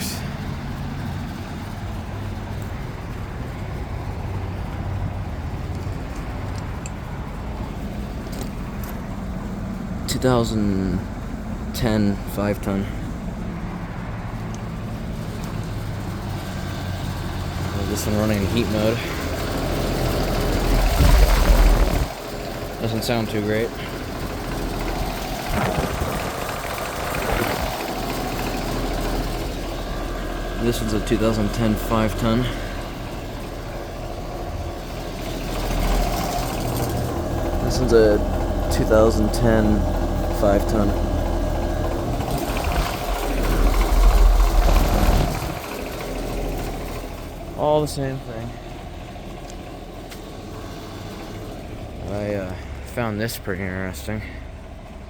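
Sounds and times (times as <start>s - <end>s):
heat pump humming: 0.0s - 55.0s.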